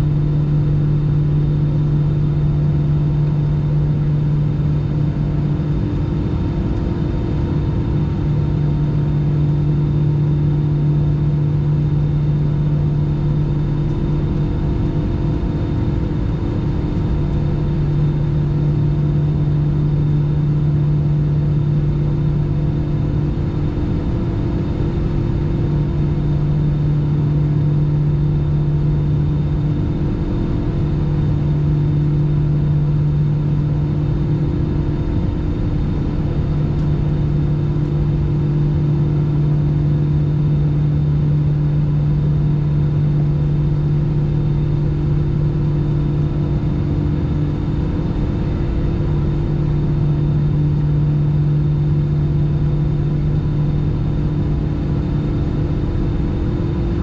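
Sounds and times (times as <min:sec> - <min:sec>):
jet engines idling in cabin: 0:00.0 - 0:57.0.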